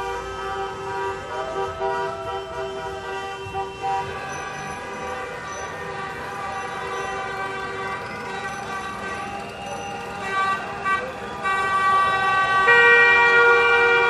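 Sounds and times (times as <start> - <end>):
car horns honking: 0.0 - 14.0.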